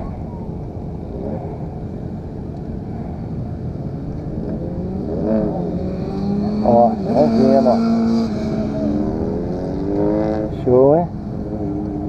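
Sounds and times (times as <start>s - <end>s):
motorcycle engines: 0.0s - 12.0s
steady low rumble: 0.0s - 12.0s.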